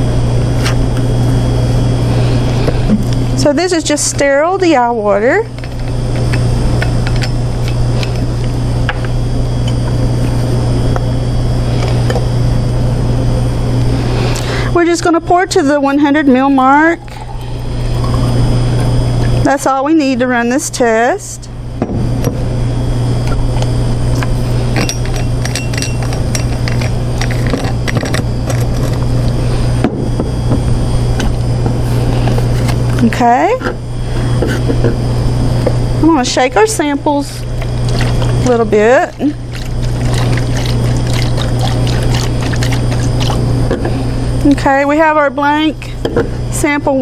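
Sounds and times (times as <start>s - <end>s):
lab equipment humming: 0.0s - 47.0s.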